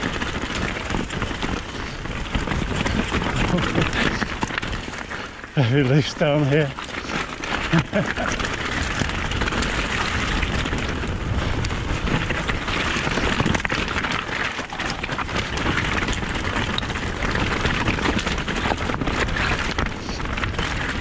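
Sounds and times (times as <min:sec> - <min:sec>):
bike rattling: 0:00.0 - 0:21.0
bike tyres crunching over stones: 0:00.0 - 0:21.0.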